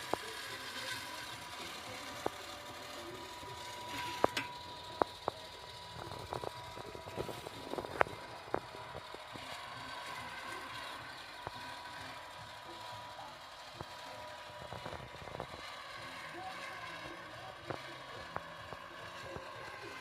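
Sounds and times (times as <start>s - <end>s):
thin high tone: 0.0s - 20.0s.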